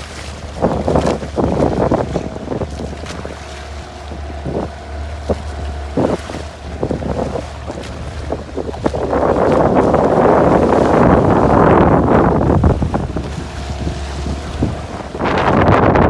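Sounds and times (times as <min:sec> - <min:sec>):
small boat motor running: 0:00.0 - 0:16.0
wind gusting on microphone: 0:00.0 - 0:16.0.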